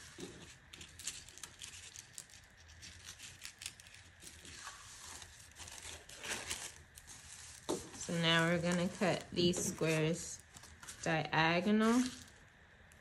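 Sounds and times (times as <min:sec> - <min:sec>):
crepe paper rustling: 0:00.0 - 0:12.4.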